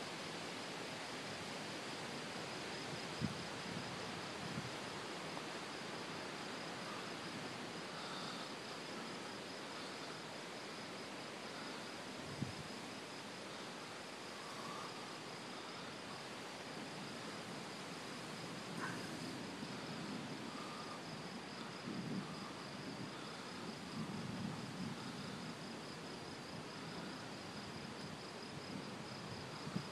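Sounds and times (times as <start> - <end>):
faint hiss: 0.0 - 29.9
night insects trilling: 0.0 - 29.9.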